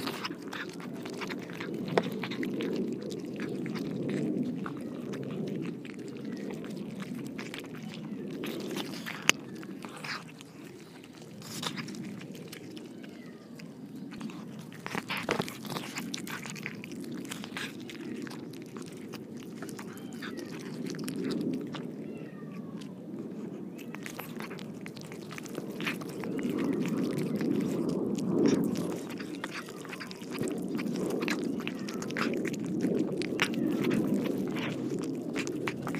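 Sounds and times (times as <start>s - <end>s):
cats chewing and eating: 0.0s - 35.9s.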